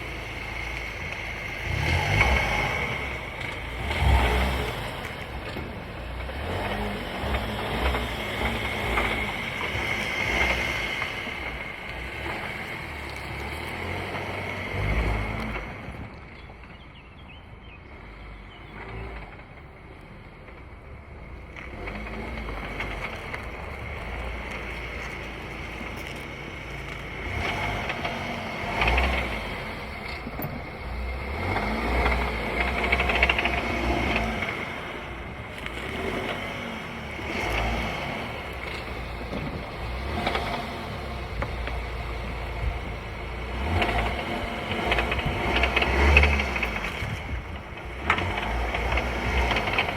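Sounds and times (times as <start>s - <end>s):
car driving with deep rumble: 0.0s - 49.9s.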